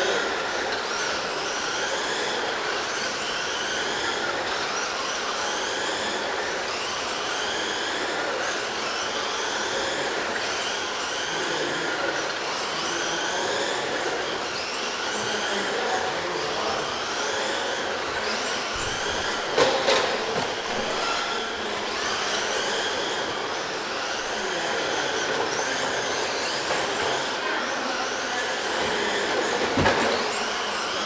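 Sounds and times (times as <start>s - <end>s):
rc truck motors whining: 0.0s - 31.0s.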